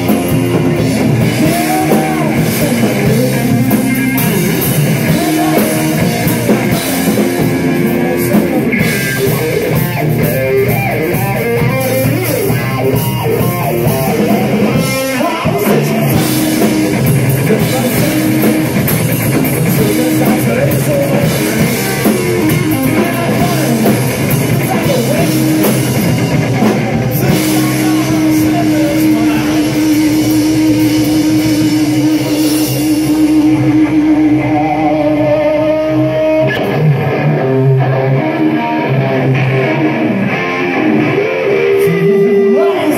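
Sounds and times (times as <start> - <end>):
drum kit: 0.0 - 42.9
electric guitar: 0.0 - 42.9.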